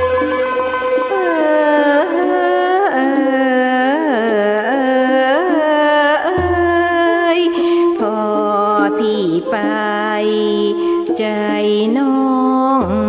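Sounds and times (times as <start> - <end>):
traditional melody with sliding notes: 0.0 - 13.0.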